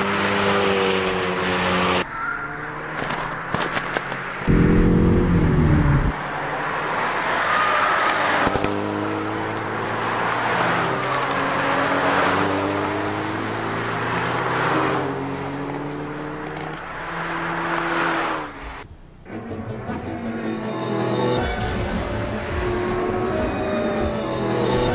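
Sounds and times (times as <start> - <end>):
car engine accelerating hard: 0.0 - 18.9, 19.9 - 24.9.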